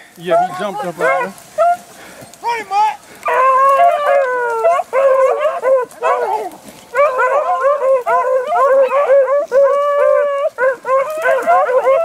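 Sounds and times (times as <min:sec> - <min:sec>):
beagles baying: 0:00.0 - 0:12.0.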